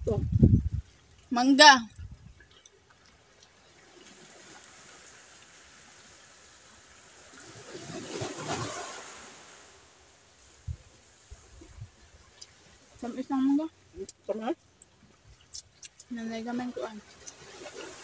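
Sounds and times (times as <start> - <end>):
sea waves washing on shore: 2.4 - 18.0.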